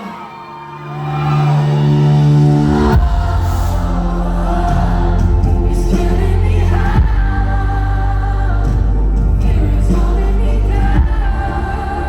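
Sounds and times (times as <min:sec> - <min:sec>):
audience singing along: 0:00.0 - 0:12.0
live pop-rock band: 0:00.0 - 0:12.0.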